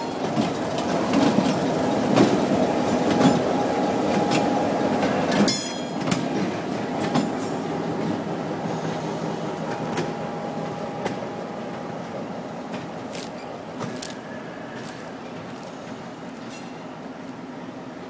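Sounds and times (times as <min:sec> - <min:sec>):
diesel locomotive engines running: 0:00.0 - 0:18.0.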